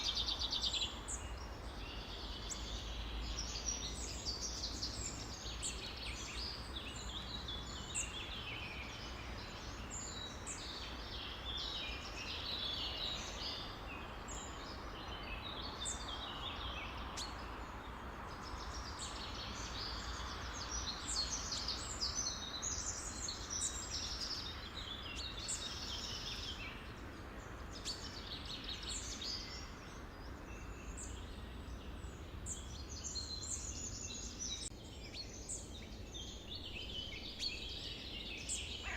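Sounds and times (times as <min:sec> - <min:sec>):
chorus of birds chirping: 0:00.0 - 0:38.9
low background noise: 0:00.0 - 0:38.9.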